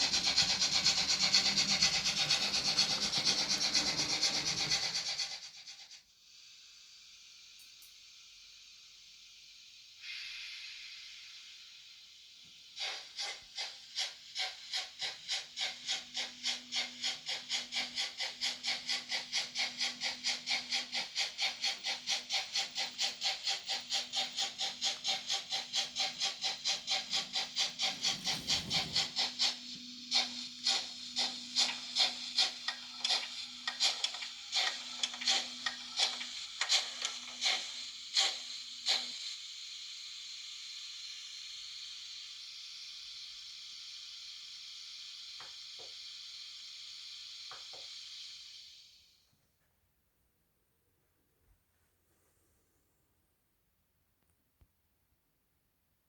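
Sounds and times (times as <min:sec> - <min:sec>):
steady steam hiss: 0:00.0 - 0:49.2
steam locomotive exhaust chuffs: 0:00.0 - 0:49.2.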